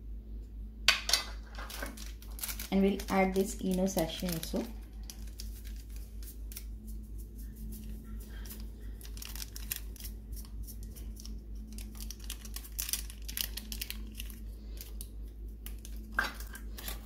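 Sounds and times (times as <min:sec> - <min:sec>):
steady low hum: 0:00.0 - 0:17.0
foil sachet crinkling: 0:01.4 - 0:17.0.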